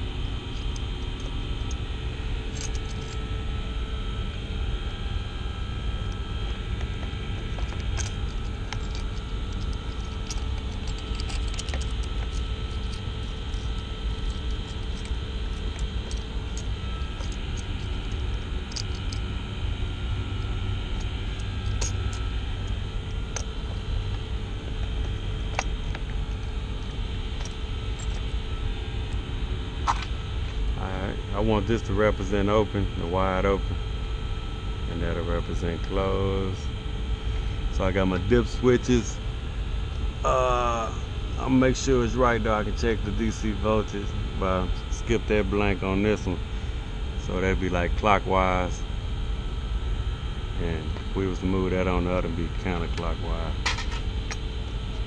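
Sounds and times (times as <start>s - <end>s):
hvac equipment rumble and hiss: 0.0s - 55.0s.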